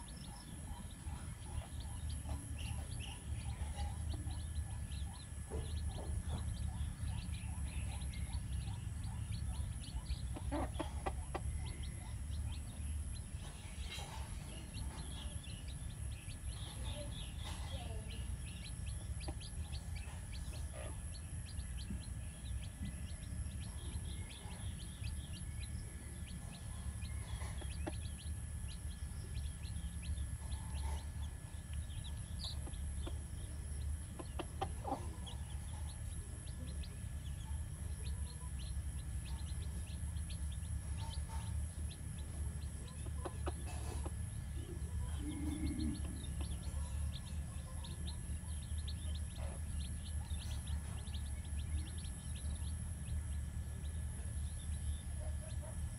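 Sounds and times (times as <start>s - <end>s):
hen clucking: 0.0s - 52.4s
chicks peeping: 0.0s - 55.9s
steady low rumble: 0.0s - 55.9s.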